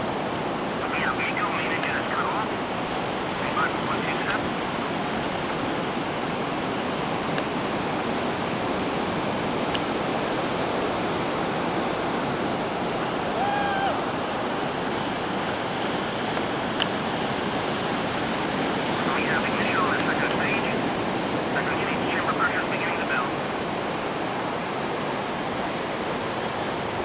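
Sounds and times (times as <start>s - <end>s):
ocean surf washing on beach: 0.0s - 27.0s.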